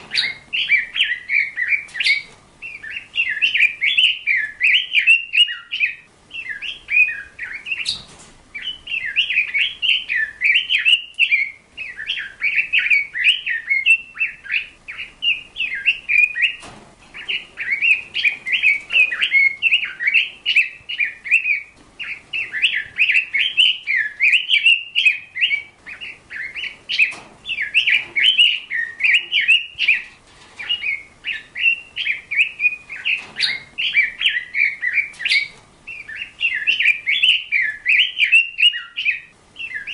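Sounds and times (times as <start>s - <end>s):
bird chirping and warbling: 0.0s - 39.9s.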